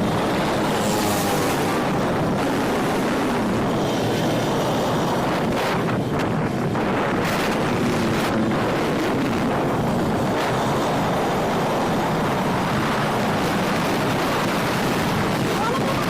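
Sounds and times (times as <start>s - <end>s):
low vehicle rumble: 0.0s - 16.0s
wind buffeting microphone: 0.0s - 16.0s.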